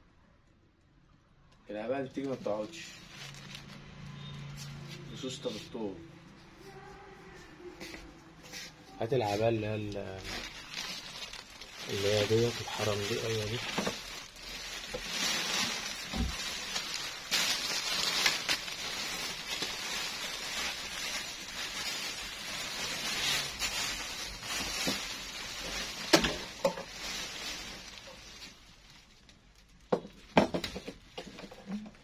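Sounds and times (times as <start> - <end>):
fabric rustling and crinkling: 2.2 - 3.9, 6.3 - 32.0.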